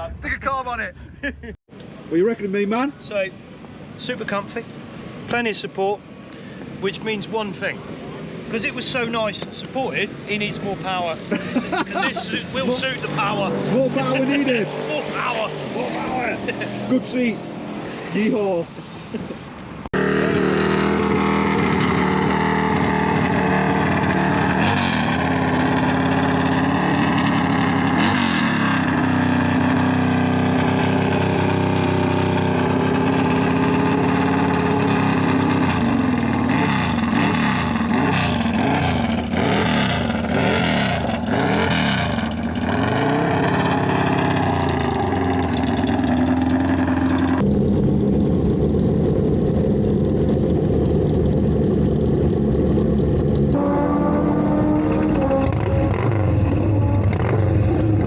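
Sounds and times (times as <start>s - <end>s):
motorcycle engines running: 3.0s - 17.7s, 19.9s - 58.0s.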